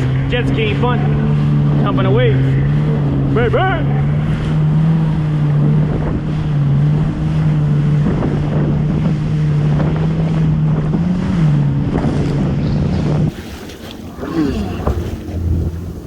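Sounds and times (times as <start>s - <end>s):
hull slapping through waves: 0.0s - 16.0s
jet ski engine running: 0.0s - 16.0s
wind buffeting microphone: 0.0s - 16.0s.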